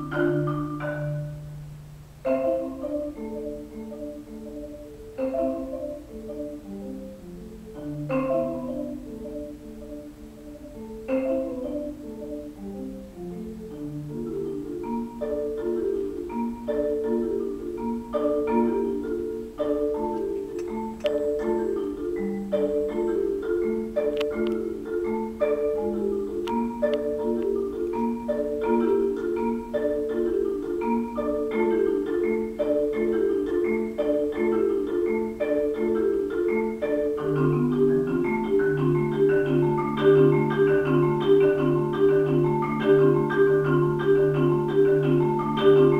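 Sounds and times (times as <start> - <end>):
low marimba bass notes: 0.0 - 45.9
marimba rolling ostinato: 0.0 - 45.9.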